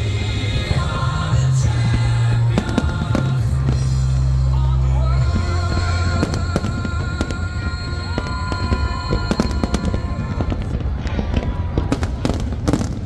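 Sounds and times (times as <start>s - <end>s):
music with held notes: 0.0s - 12.8s
deep rumble: 0.0s - 13.0s
fireworks bangs and crackles: 0.0s - 13.0s.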